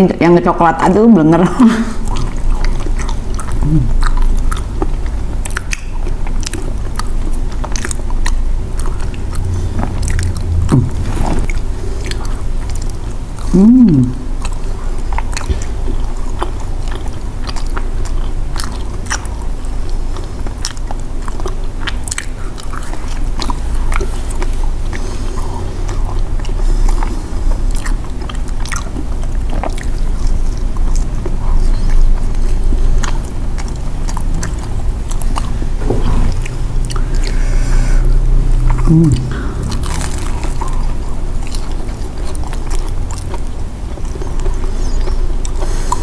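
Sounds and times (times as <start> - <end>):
chewing and biting crunchy snacks: 1.8 - 46.0.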